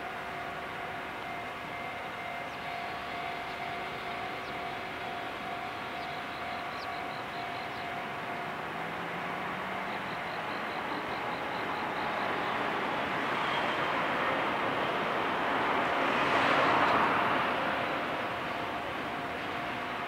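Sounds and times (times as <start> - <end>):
distant locomotive engine droning: 0.0 - 20.0.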